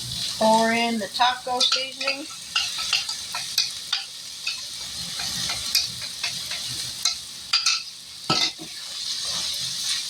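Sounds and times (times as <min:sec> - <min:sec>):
meat sizzling in a pan: 0:00.0 - 0:10.0
utensil scraping a pan: 0:01.6 - 0:10.0.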